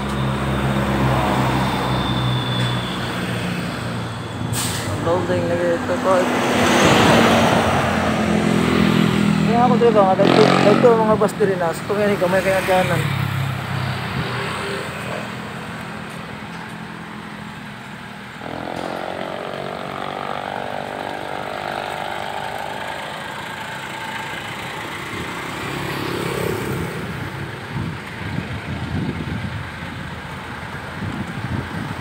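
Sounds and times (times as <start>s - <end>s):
steady traffic background: 0.0s - 32.0s
vehicle engine hum: 0.0s - 32.0s.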